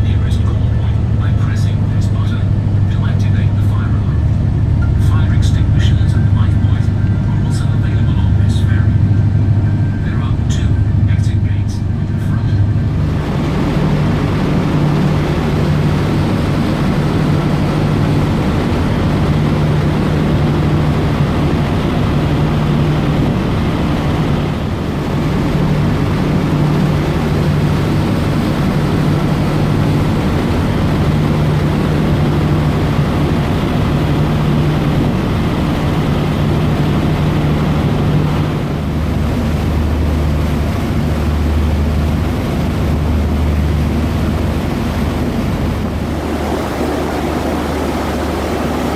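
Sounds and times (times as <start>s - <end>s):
ferry engines droning: 0.0s - 48.9s
wind and water rushing: 0.0s - 48.9s.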